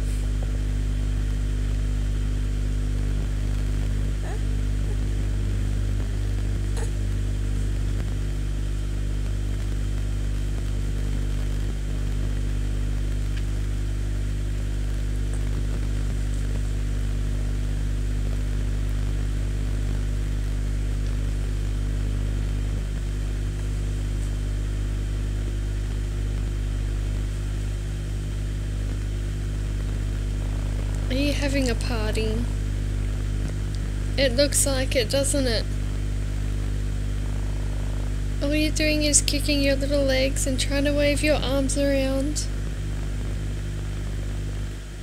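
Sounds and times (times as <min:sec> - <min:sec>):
steady low motor hum: 0:00.0 - 0:45.0.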